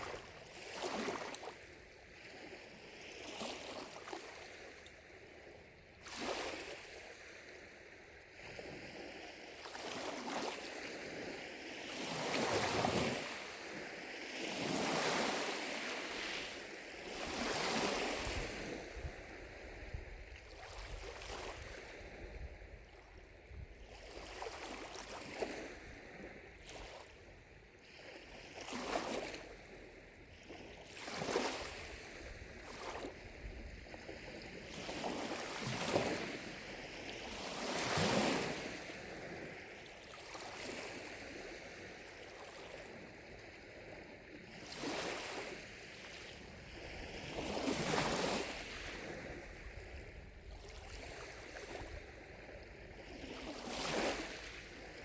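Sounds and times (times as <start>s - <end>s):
lake waves lapping on shore: 0.0s - 55.0s.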